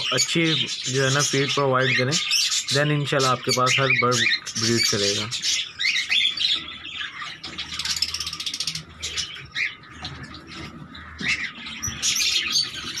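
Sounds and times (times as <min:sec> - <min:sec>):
parakeets chattering and calling: 0:00.0 - 0:13.0.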